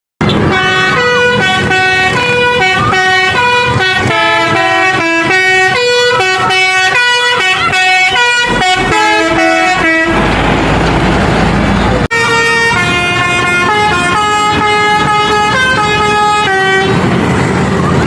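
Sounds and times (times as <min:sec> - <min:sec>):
bus melody horn: 0:00.2 - 0:10.8, 0:12.1 - 0:17.2.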